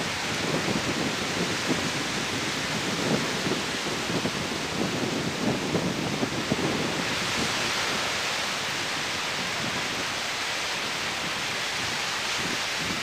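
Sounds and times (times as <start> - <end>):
surf waves washing up beach: 0.0 - 13.0.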